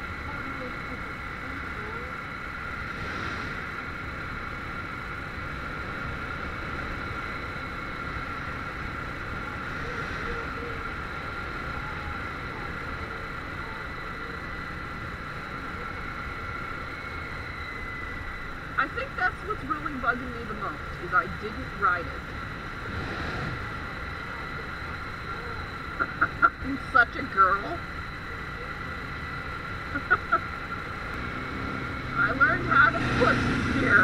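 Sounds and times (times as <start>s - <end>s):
motorcycle engine running: 0.0s - 34.0s
road noise: 0.0s - 34.0s.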